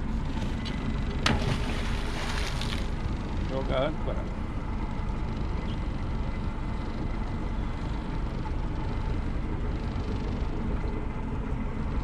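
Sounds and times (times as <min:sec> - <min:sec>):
motorboat engine idling: 0:00.0 - 0:12.0.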